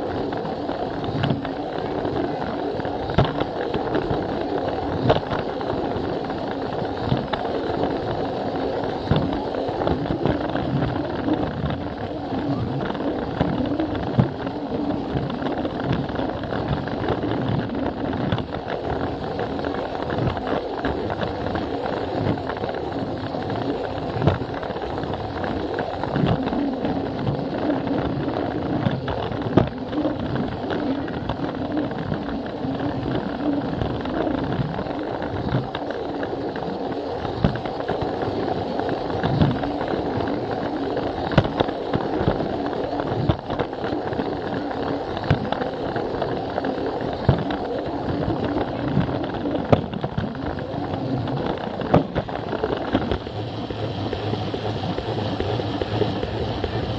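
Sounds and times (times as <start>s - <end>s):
plastic wheels clicking on track: 0.0s - 56.9s.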